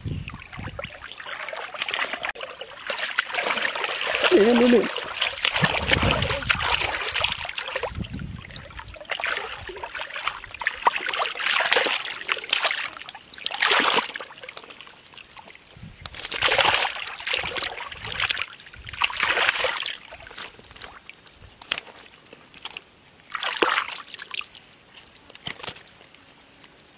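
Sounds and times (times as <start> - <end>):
muddy water sloshing and splashing: 0.0 - 26.6.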